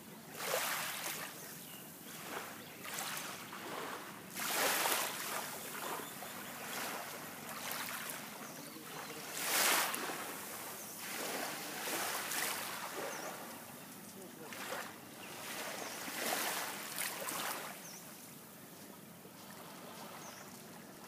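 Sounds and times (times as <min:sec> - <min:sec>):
small waves lapping on shore: 0:00.0 - 0:21.0.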